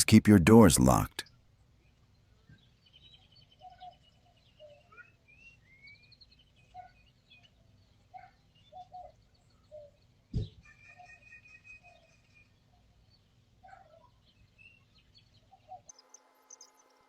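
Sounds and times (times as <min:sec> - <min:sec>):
birds chirping and trilling: 0:01.7 - 0:17.0.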